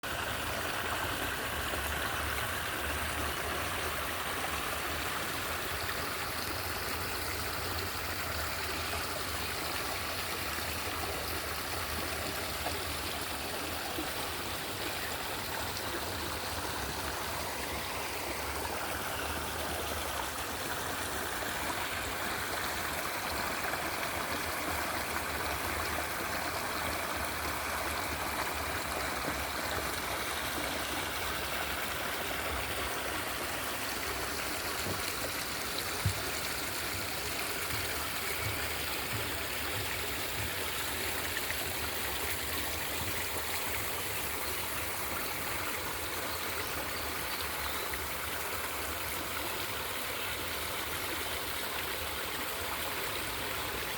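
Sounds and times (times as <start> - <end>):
water rushing and gurgling: 0.0 - 53.9.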